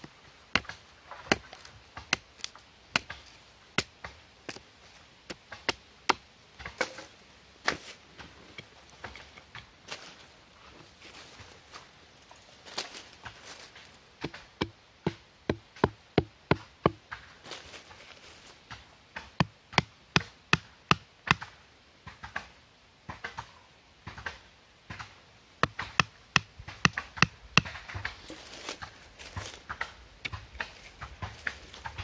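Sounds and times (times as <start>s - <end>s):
stake being pounded into ground: 0.0s - 4.7s, 5.3s - 10.0s, 12.8s - 17.3s, 18.7s - 22.5s, 23.1s - 32.0s.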